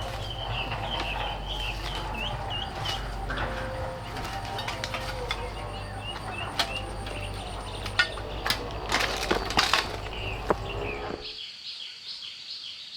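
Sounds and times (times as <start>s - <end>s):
hard objects clinking and knocking: 0.0s - 11.0s
steady low hum: 0.0s - 11.4s.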